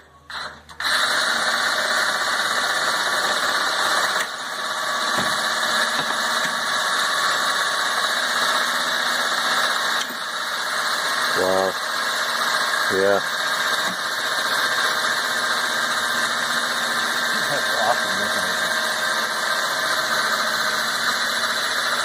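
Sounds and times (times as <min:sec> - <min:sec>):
cordless drill running: 0:00.3 - 0:22.0.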